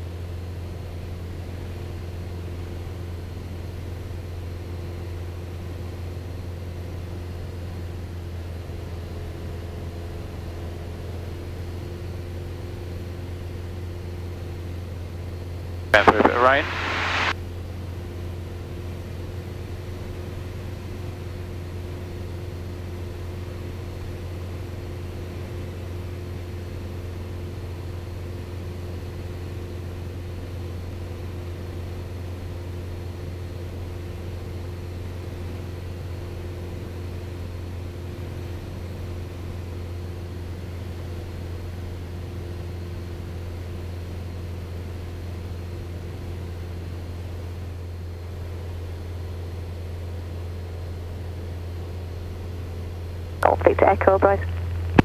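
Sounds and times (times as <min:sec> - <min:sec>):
aircraft engine droning in cabin: 0:00.0 - 0:55.0.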